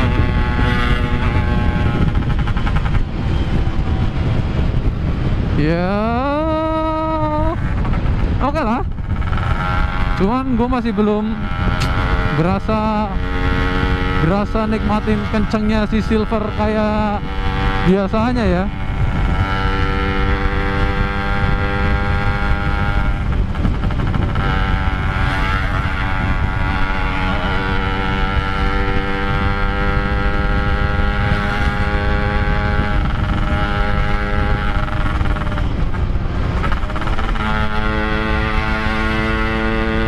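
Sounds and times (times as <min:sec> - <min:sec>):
two-stroke motorcycle engine running: 0:00.0 - 0:40.0
wind rumble on microphone: 0:00.0 - 0:40.0.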